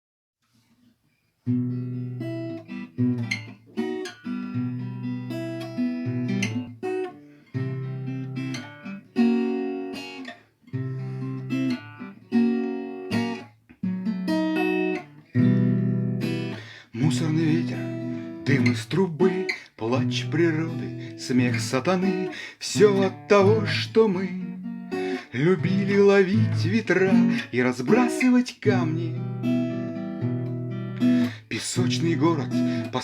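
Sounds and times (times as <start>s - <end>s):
acoustic guitar chords: 1.4s - 33.0s.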